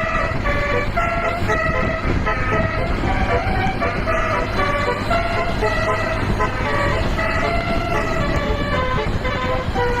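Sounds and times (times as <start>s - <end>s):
bus horn playing melody: 0.0s - 10.0s
road and engine rumble: 0.0s - 10.0s.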